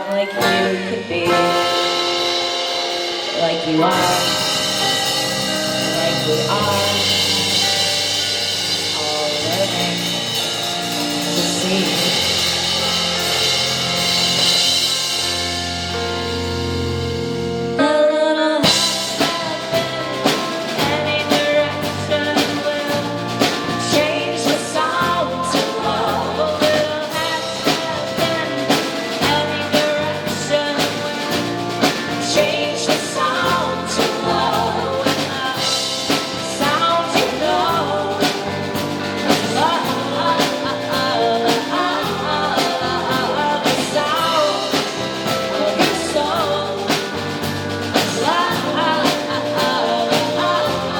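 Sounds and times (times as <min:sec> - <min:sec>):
drum kit beat: 0:00.0 - 0:17.8, 0:18.6 - 0:50.9
bass notes: 0:00.0 - 0:50.9
lead melody with sliding notes: 0:00.0 - 0:50.9
live band playing: 0:00.0 - 0:50.9.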